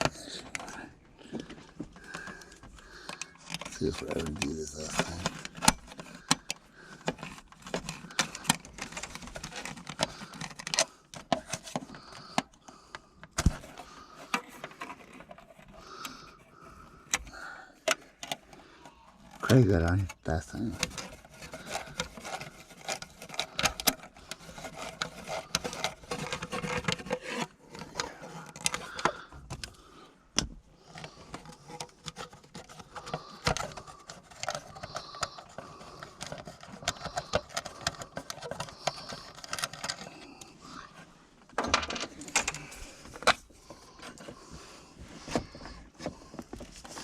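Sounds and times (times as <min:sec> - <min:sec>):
clicks and taps of wiring work: 0:00.0 - 0:40.6, 0:41.4 - 0:44.4.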